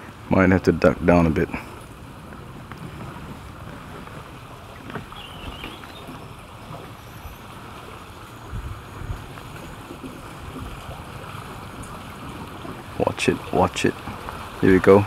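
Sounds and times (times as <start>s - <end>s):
water moving around kayak: 0.0s - 15.0s
wind buffeting microphone: 0.0s - 15.0s.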